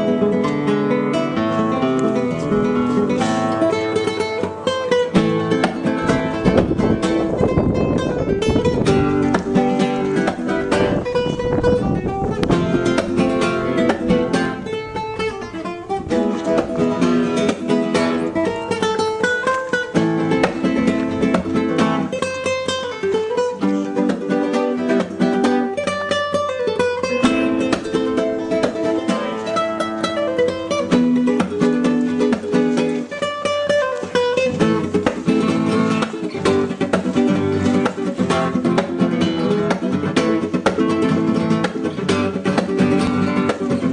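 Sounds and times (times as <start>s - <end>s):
flamenco acoustic guitar: 0.0s - 43.9s.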